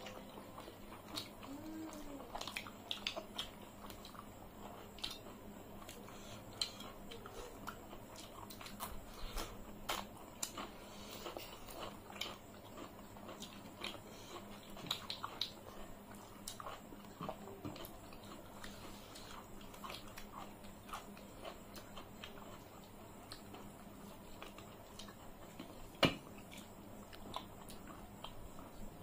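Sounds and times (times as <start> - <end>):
chewing and mouth sounds: 0.0 - 29.0.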